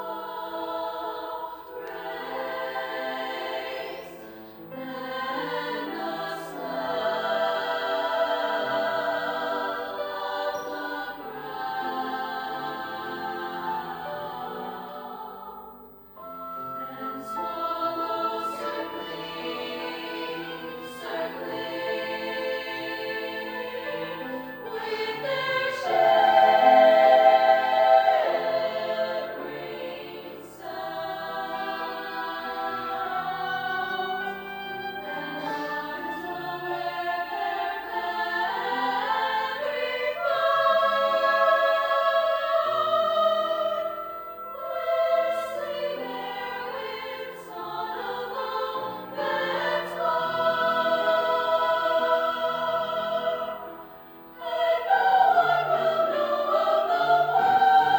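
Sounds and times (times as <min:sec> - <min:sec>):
choir singing sustained chords: 0:00.0 - 0:57.9.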